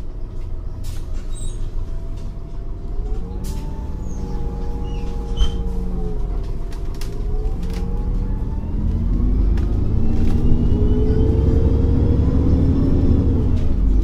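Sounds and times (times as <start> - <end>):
bus engine idling with whine: 0.0 - 14.0.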